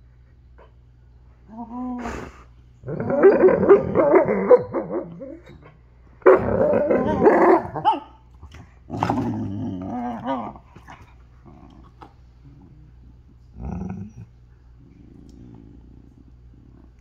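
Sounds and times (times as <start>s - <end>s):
dogs growly vocalising: 1.4s - 17.0s.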